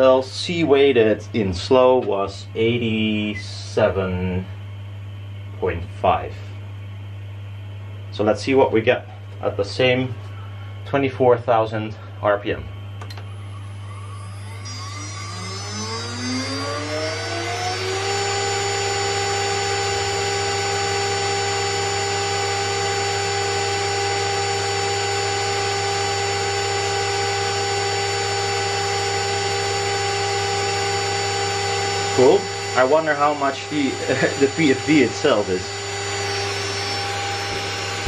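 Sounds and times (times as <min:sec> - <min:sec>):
cooling fan humming: 0:00.0 - 0:38.0
spindle high whine: 0:00.0 - 0:38.0.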